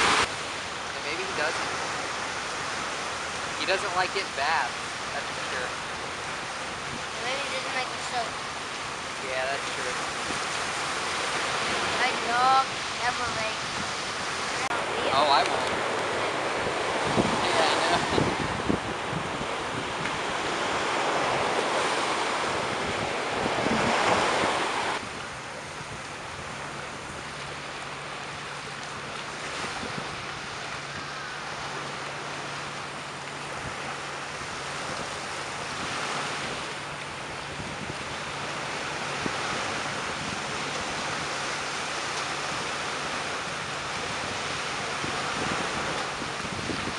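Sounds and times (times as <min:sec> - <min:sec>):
small waves breaking on shore: 0:00.0 - 0:46.9
wind on microphone: 0:00.0 - 0:46.9.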